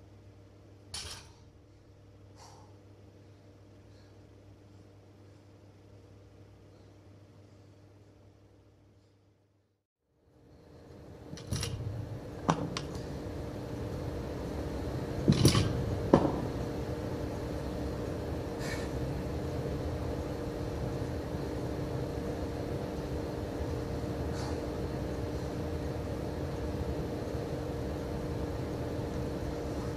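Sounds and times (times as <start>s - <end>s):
room hum: 0.0s - 29.9s.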